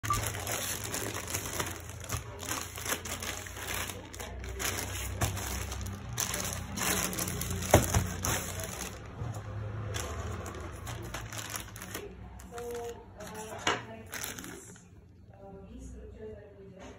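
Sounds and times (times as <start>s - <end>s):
plastic mailer bag crinkling: 0.0s - 14.9s.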